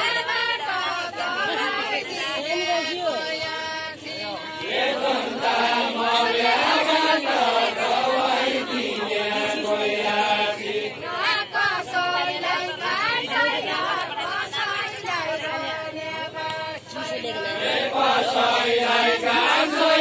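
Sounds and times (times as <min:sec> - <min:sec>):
men singing in chanting style: 0:00.0 - 0:20.0.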